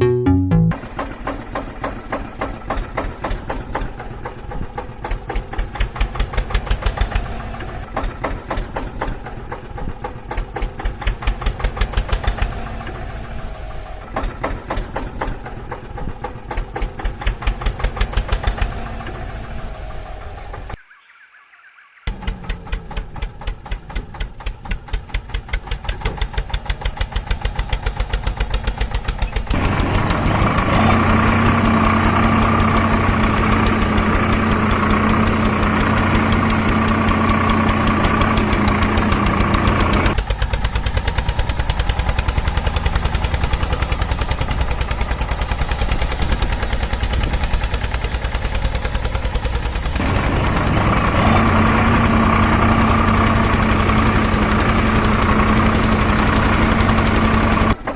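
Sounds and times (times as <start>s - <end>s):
tractor engine chugging: 0.8s - 20.8s, 22.1s - 57.9s.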